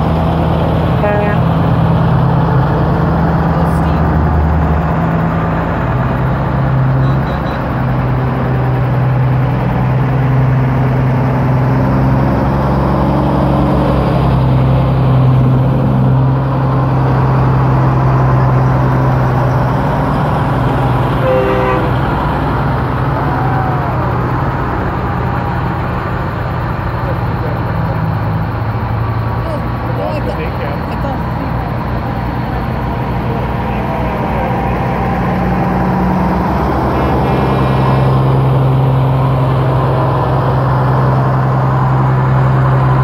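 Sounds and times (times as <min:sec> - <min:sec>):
diesel truck engines droning: 0:00.0 - 0:43.0
tyre and road noise: 0:00.0 - 0:43.0.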